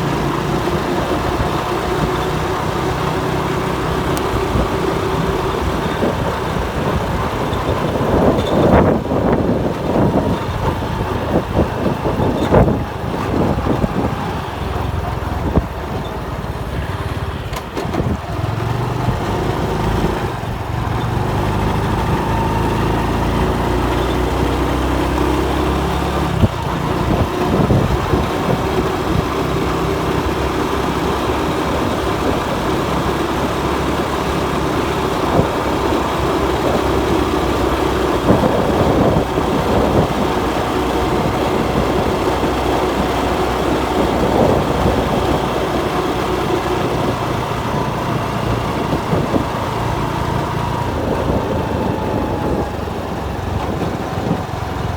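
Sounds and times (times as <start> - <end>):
motorcycle engine running: 0.0 - 54.9
road and wind rumble: 0.0 - 54.9.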